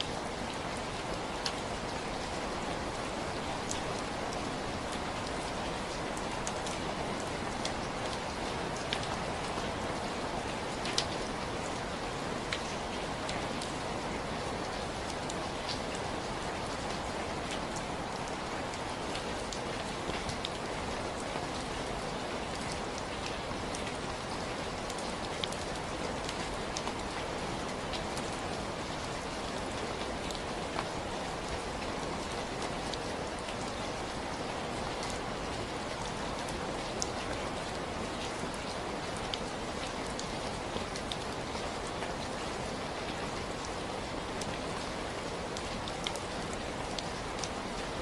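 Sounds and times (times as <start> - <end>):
raindrops ticking on a surface: 0.0 - 48.0
steady rain hiss: 0.0 - 48.0.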